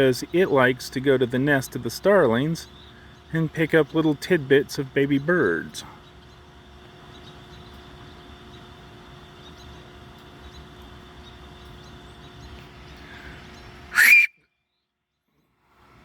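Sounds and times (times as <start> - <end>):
starlings chirping: 0.0 - 14.3
steady background hum: 0.0 - 16.0.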